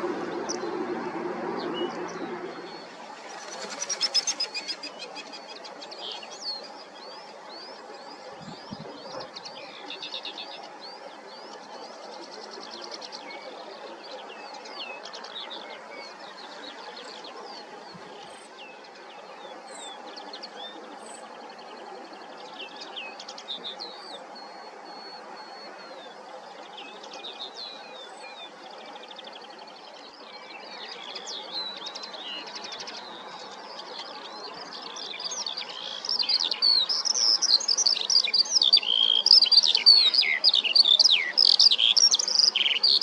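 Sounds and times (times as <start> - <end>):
bird twittering song: 0.0 - 43.0.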